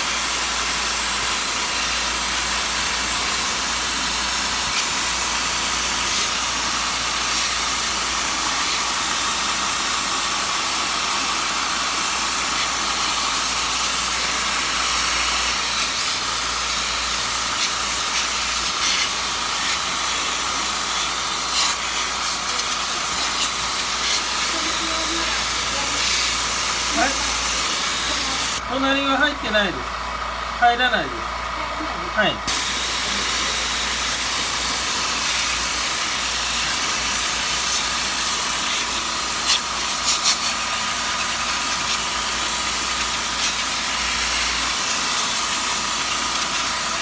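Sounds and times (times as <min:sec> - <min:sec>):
water spray hissing: 0:00.0 - 0:28.6, 0:32.5 - 0:47.0.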